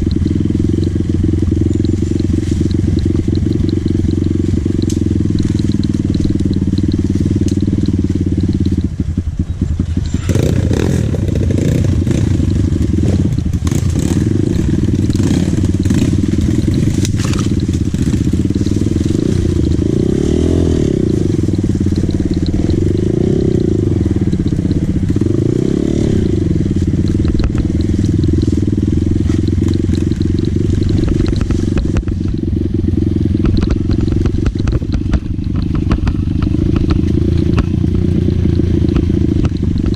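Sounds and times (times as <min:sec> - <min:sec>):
crackling and clattering noise: 0:00.0 - 0:39.9
dirt bike engine running: 0:00.0 - 0:39.9.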